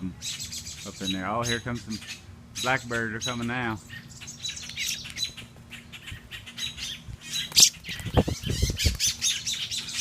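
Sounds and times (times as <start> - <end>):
adult birds alarm calls: 0.2 - 10.0.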